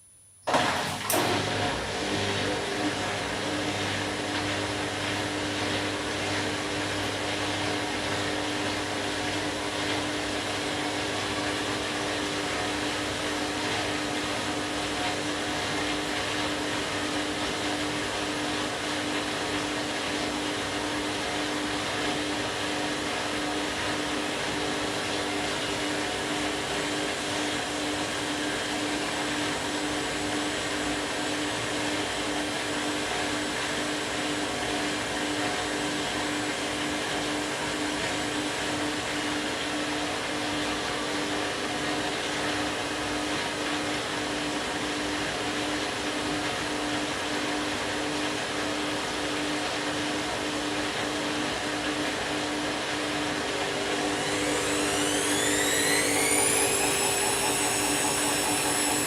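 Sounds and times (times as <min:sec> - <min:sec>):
washing machine running: 0:00.4 - 0:59.0.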